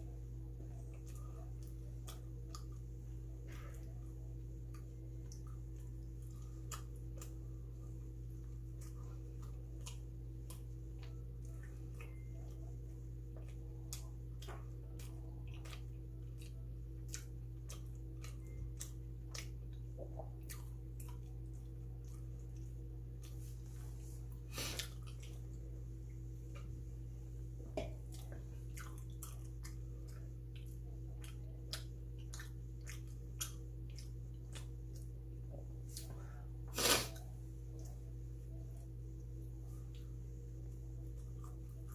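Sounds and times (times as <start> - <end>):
steady electrical hum: 0.0 - 41.9
person chewing pastry: 0.1 - 41.9.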